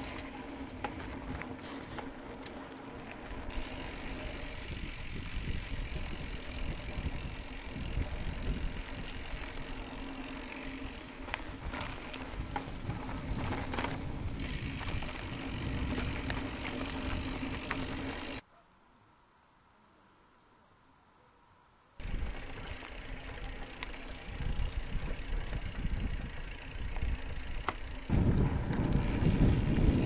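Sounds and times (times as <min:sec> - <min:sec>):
bike clicks and rattles: 0:00.0 - 0:18.4, 0:22.0 - 0:30.0
bike tyres rolling: 0:00.0 - 0:18.4, 0:21.9 - 0:30.0.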